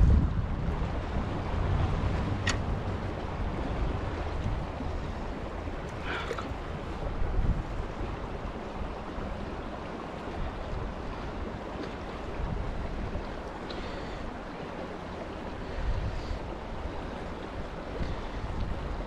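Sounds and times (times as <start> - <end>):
river rushing over rocks: 0.0 - 19.0
wind rumble on microphone: 0.0 - 19.0.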